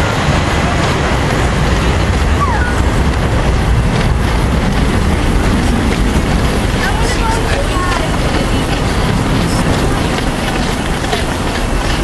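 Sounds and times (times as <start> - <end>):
low rushing noise: 0.0 - 12.0.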